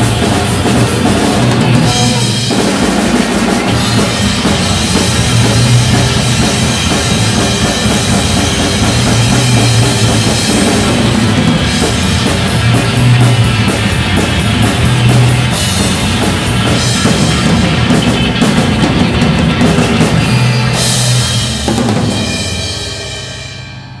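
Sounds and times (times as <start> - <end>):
cymbals ringing: 0.0 - 24.0
rock drum kit playing: 0.0 - 24.0.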